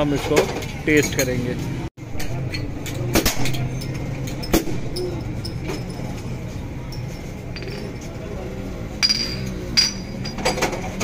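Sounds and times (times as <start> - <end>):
street background hum: 0.0 - 11.0
glassware clinking: 2.1 - 11.0.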